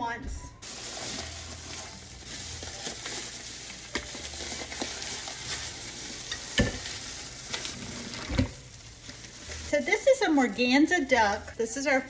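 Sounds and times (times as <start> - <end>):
plastic gloves crinkling: 0.6 - 12.0.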